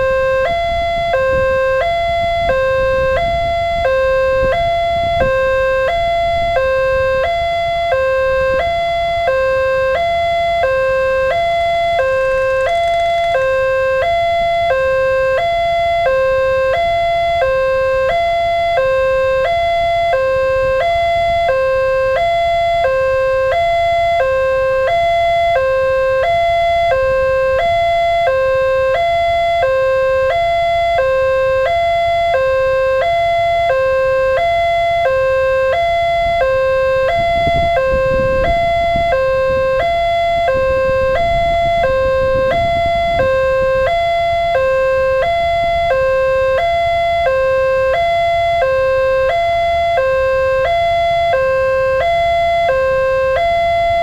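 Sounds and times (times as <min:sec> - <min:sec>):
two-tone crossing alarm: 0:00.0 - 0:54.0.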